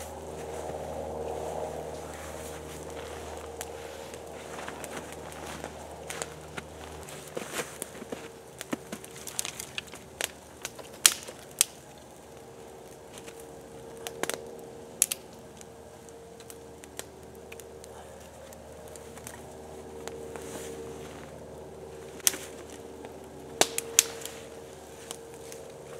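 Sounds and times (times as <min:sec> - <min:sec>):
campfire crackling and popping: 0:00.0 - 0:25.9.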